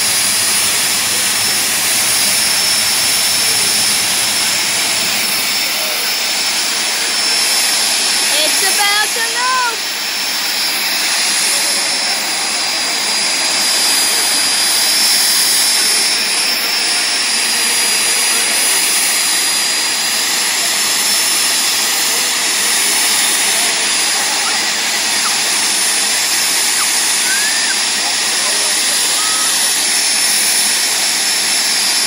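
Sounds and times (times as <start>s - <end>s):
high-pitched turbine whine: 0.0s - 32.0s
jet engines roaring: 0.0s - 32.0s.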